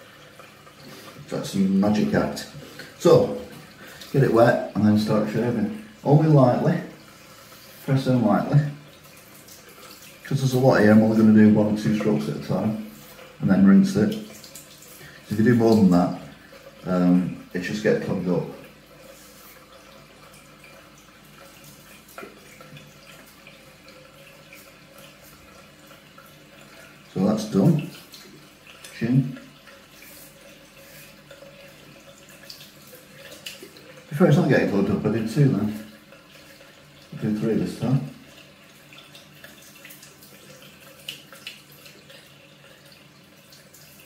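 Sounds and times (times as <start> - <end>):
tap water running into sink: 0.0 - 44.0.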